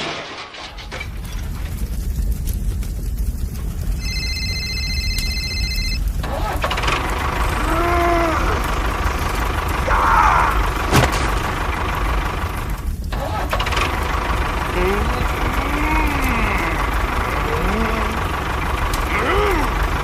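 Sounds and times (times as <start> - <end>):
low engine rumble: 0.6 - 20.0.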